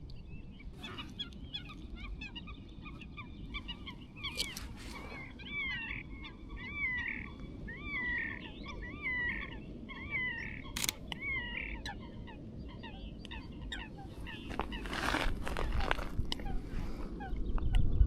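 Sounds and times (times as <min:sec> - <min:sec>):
other birds chirping: 0:00.1 - 0:17.9
bird calling loudly: 0:00.8 - 0:17.4.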